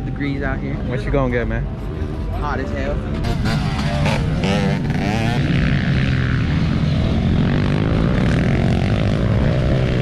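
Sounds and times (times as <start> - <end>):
dirt bike engines running: 0.0 - 10.0.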